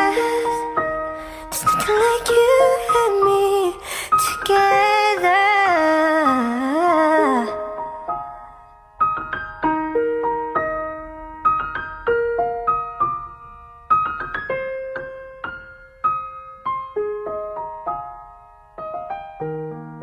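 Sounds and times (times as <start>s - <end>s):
solo piano melody: 0.0s - 20.0s.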